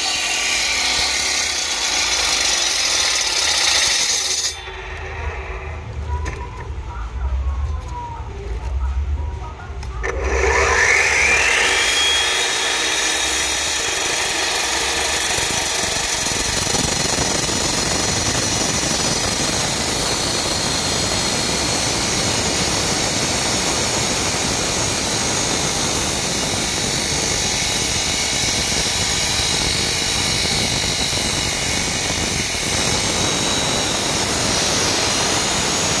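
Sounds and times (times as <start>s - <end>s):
concrete saw whining and cutting: 0.0s - 5.8s, 10.0s - 36.0s.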